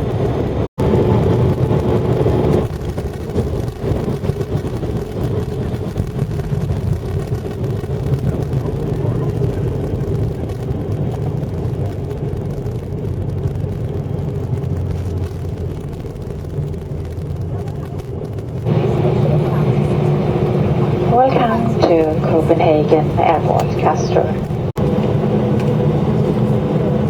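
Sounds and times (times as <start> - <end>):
jet engine noise: 0.0 - 27.0
jet rolling on runway rumble: 0.0 - 27.0.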